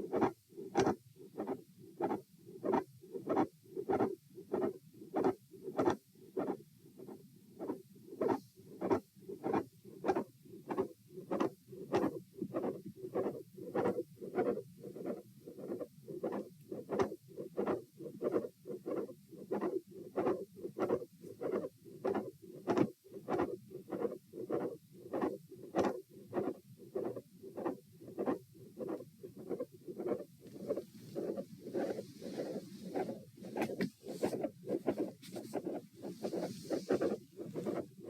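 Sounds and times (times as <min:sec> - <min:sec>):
heartbeat through stethoscope: 0:00.0 - 0:06.6, 0:07.6 - 0:38.0.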